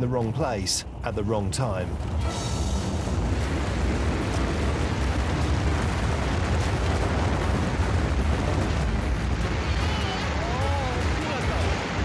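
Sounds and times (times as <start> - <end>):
rushing floodwater rumble: 0.0 - 12.0.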